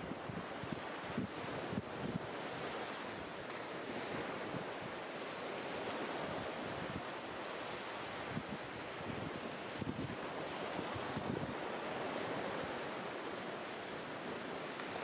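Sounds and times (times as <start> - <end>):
sea waves breaking on beach: 0.2 - 15.0.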